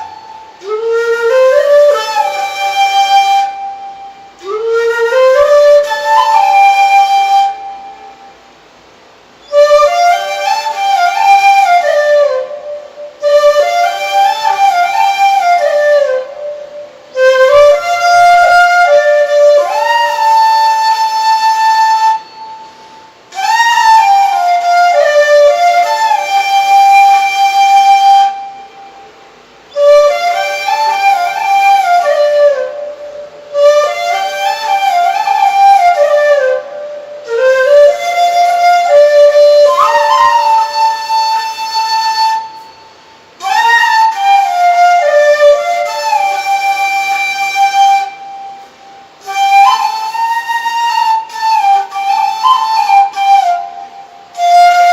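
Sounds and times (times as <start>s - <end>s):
solo flute melody: 0.0s - 54.9s.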